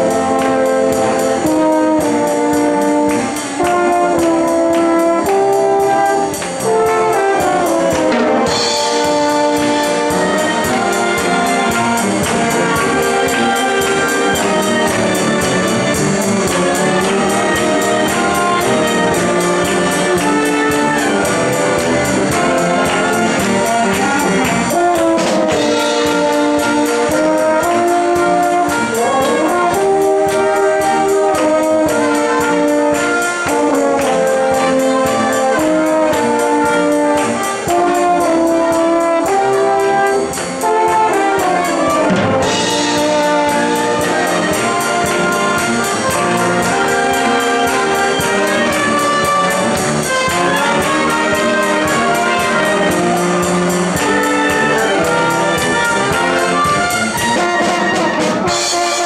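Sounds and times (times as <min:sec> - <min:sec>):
brass band playing upbeat tune: 0:00.0 - 0:59.0.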